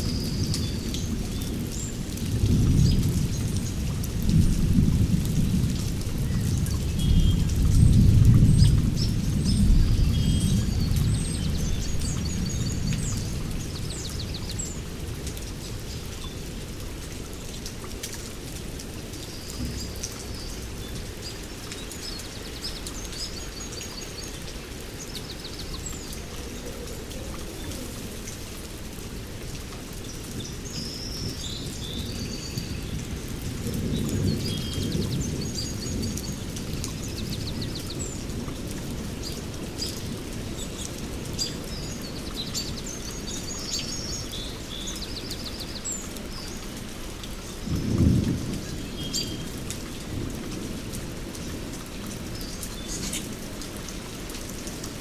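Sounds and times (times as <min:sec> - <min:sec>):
low rumble of thunder: 0:00.0 - 0:17.4, 0:18.3 - 0:45.6, 0:46.2 - 0:54.8
steady rain: 0:00.0 - 0:55.0.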